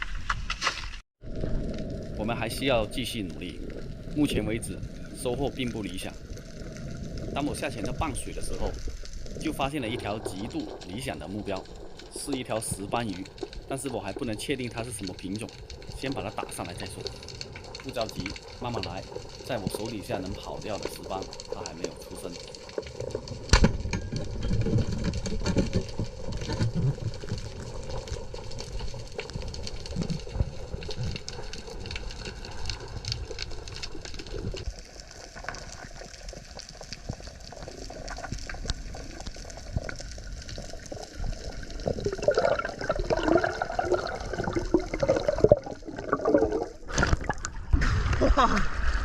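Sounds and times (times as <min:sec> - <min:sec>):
water rushing and gurgling: 0:01.2 - 0:49.0.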